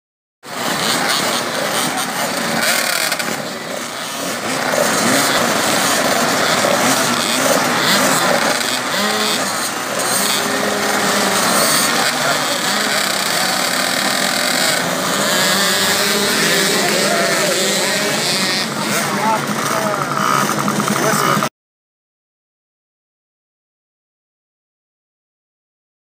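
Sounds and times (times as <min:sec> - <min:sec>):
motocross bikes revving: 0:00.5 - 0:21.5.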